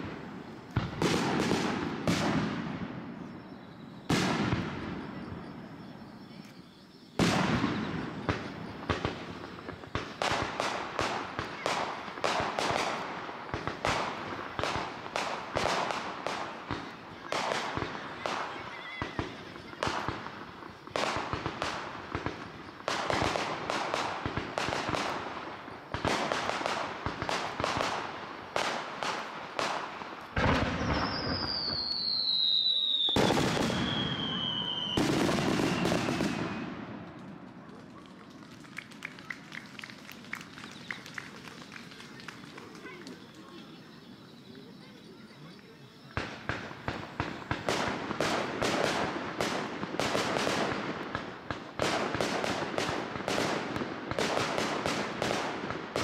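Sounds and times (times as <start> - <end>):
firework bangs and pops: 0.0 - 43.8, 46.0 - 56.0.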